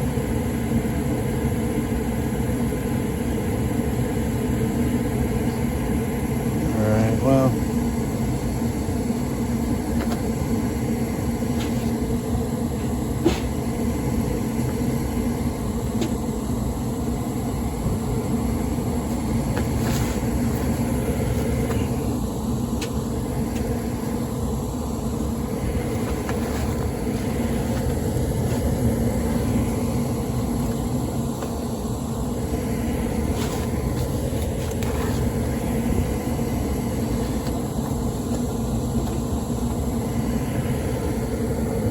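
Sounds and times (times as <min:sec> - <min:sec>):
furnace motor hum: 0:00.0 - 0:41.9.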